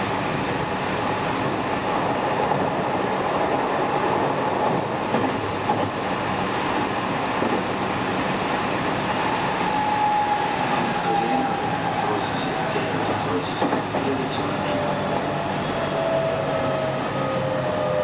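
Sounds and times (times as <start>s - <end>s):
train rolling and wheel noise: 0.0s - 18.0s.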